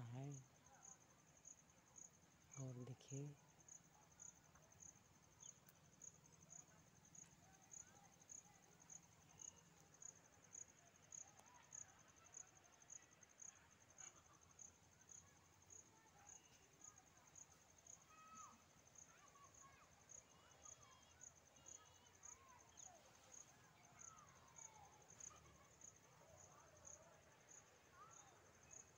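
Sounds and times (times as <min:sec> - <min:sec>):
insect chirping: 0:00.0 - 0:28.9.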